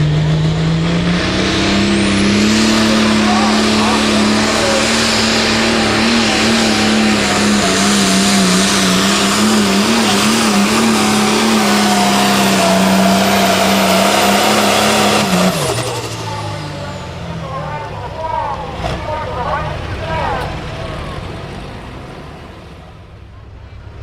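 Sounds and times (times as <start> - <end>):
tractor engine running under load: 0.0 - 24.0.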